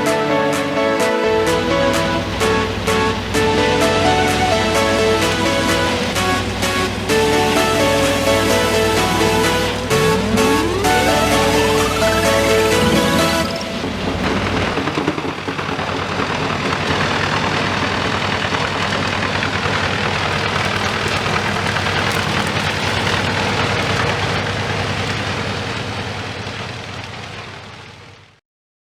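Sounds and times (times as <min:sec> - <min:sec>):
wood chipper running: 0:00.0 - 0:28.4.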